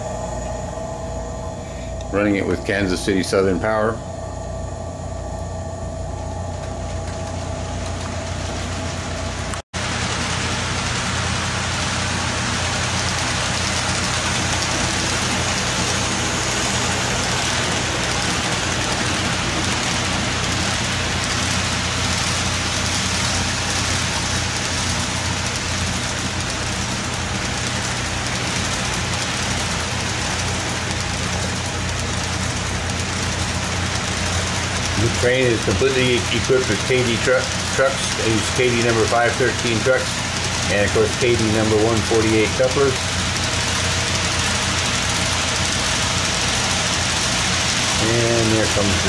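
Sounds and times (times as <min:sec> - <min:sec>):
wheels rolling on rails: 0:06.5 - 0:49.0
model train motor hum: 0:06.6 - 0:49.0.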